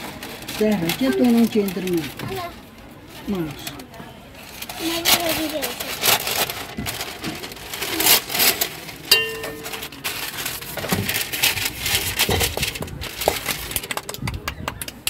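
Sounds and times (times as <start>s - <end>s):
baking paper rustling and crinkling: 0.0s - 14.4s.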